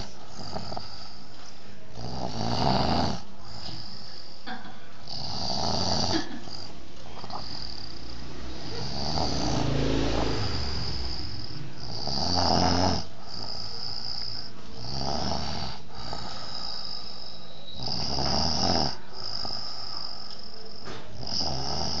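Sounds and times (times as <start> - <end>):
person snoring: 0.0 - 1.3, 1.9 - 4.4, 5.1 - 22.0.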